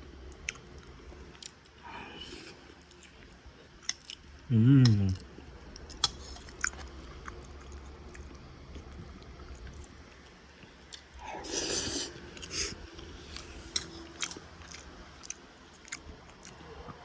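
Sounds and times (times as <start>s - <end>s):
person chewing: 2.2s - 17.0s.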